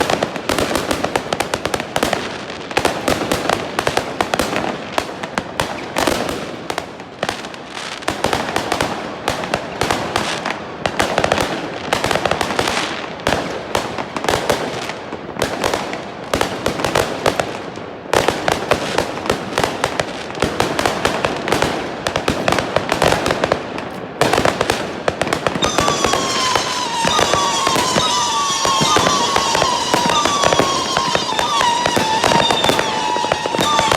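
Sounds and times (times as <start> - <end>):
fireworks bangs and crackling: 0.0 - 33.9
whistling fireworks: 0.0 - 33.9.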